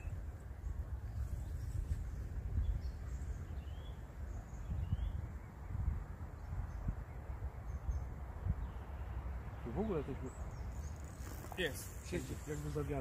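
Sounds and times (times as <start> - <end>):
faint bird chirps: 0.0 - 9.3, 10.0 - 13.0
wind buffeting microphone: 0.0 - 13.0.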